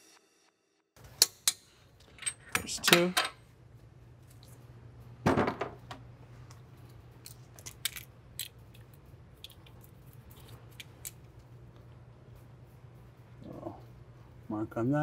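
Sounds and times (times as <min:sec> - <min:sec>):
faint low hum: 0:01.7 - 0:15.0.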